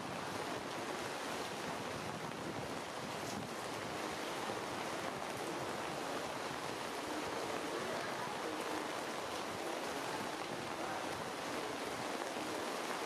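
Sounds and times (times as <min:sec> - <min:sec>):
rain falling through foliage: 0:00.0 - 0:13.0.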